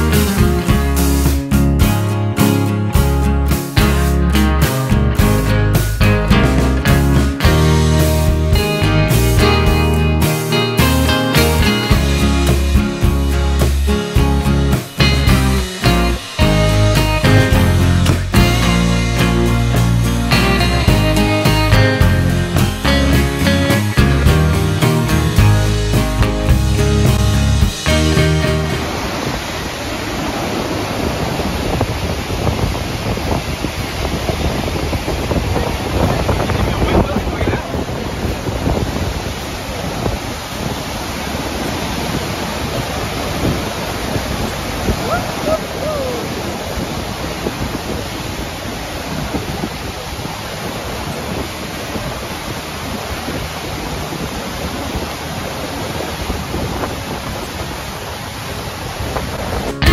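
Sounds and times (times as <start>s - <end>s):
river rapids rushing: 0.0s - 59.9s.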